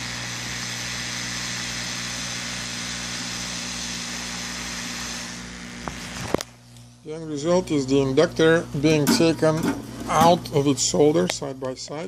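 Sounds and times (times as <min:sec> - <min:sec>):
hot-air blower hissing: 0:00.0 - 0:12.0.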